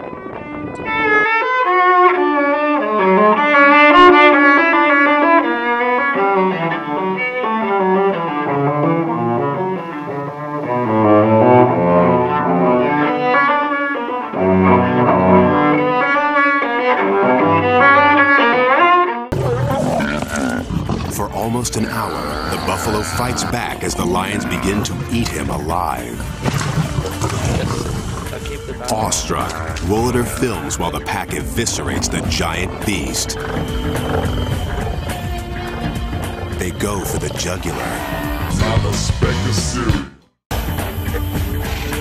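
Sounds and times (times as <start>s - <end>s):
bowed strings music: 0.0s - 39.2s.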